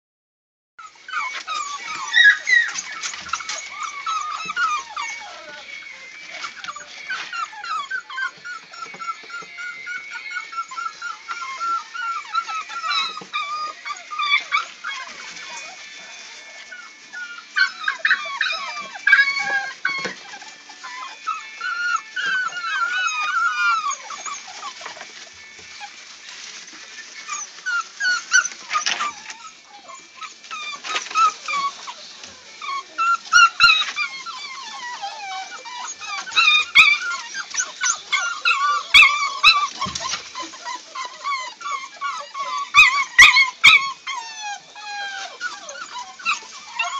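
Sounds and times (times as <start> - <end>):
puppies whining and yipping: 0.8 - 46.9.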